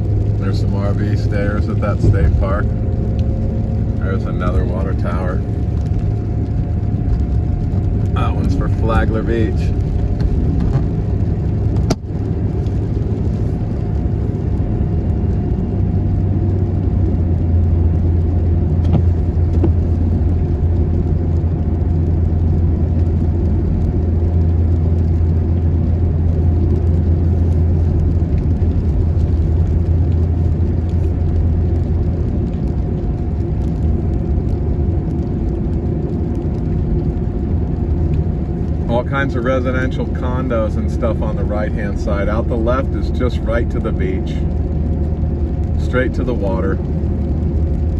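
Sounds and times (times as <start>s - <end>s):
vehicle road and engine rumble: 0.0s - 47.9s.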